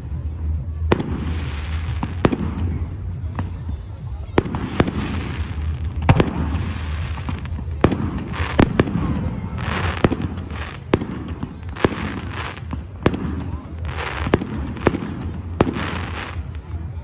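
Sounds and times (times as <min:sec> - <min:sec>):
crackling firework hiss: 0:00.0 - 0:17.0
firework bangs: 0:00.6 - 0:17.0.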